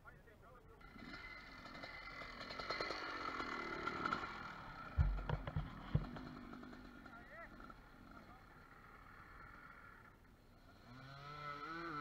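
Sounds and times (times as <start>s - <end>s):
dirt bike engine running: 0.8s - 12.0s.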